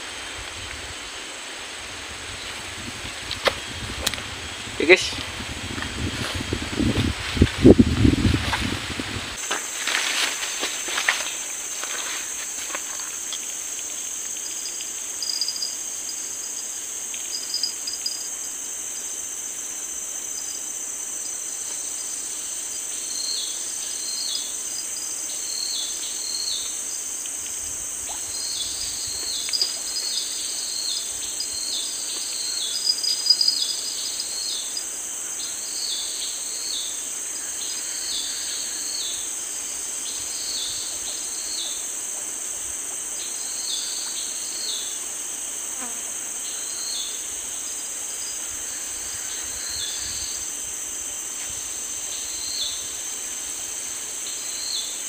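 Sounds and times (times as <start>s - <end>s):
high-pitched insect chorus: 0.0s - 55.0s
short insect chirps: 7.3s - 42.0s, 43.0s - 55.0s.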